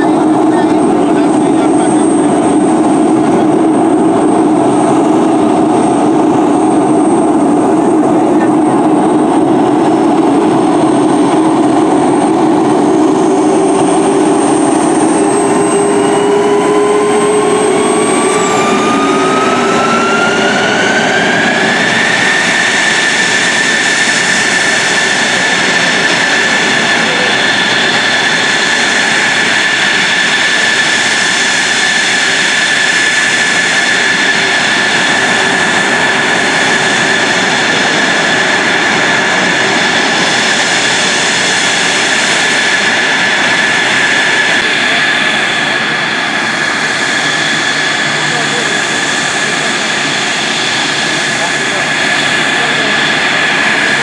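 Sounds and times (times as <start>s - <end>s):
jet engine rushing noise: 0.0s - 54.0s
jet engine whine: 0.0s - 54.0s.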